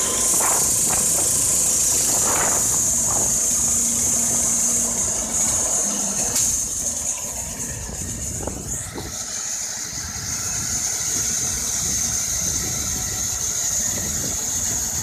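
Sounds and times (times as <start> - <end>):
band saw blade hissing through log: 0.0 - 15.0
petrol engine running under load: 0.0 - 15.0.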